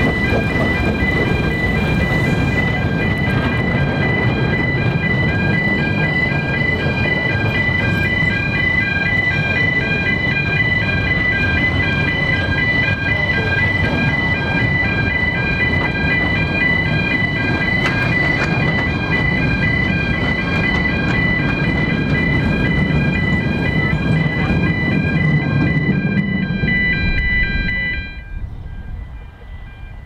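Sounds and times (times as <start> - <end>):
level crossing two-tone alarm: 0.0 - 30.0
train coaches rumbling past: 0.0 - 30.0.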